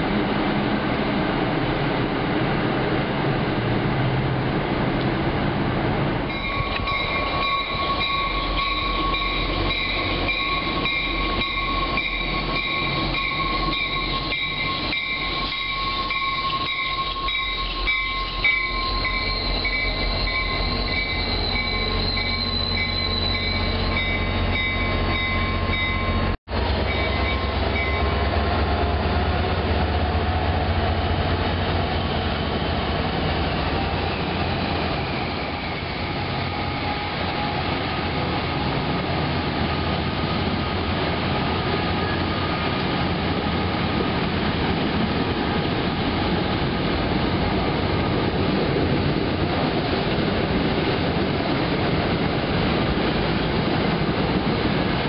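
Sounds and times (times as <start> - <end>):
high-pitched train whine: 6.2 - 55.0.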